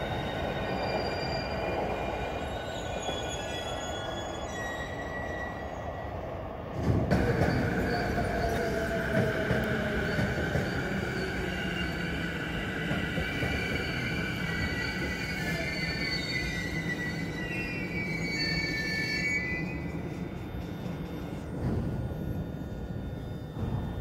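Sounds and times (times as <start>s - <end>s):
electric trains rumbling: 0.0s - 24.0s.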